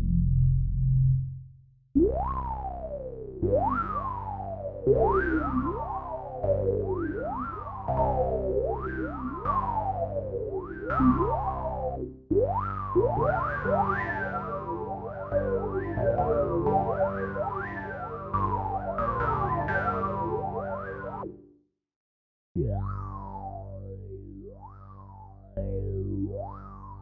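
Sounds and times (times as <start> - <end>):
low synth bass: 0.0 - 21.4, 22.6 - 27.0
synthesizer notes with filter sweeps: 2.0 - 21.5, 22.6 - 27.0.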